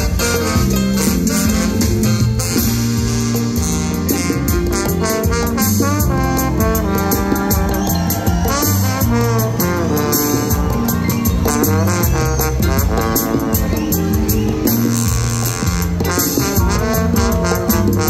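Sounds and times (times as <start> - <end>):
live band playing: 0.0 - 18.0
trombone solo: 0.0 - 18.0.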